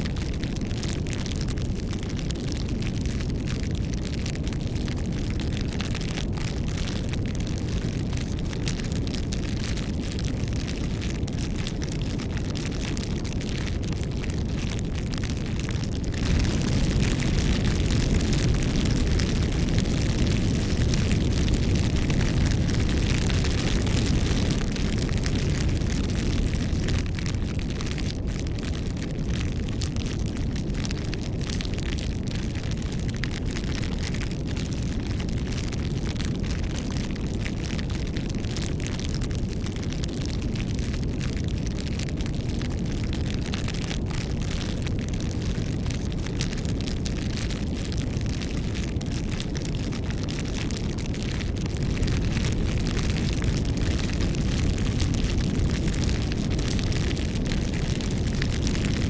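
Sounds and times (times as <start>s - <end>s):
fire crackles and pops: 0.0s - 59.0s
wood fire burning: 0.0s - 59.0s.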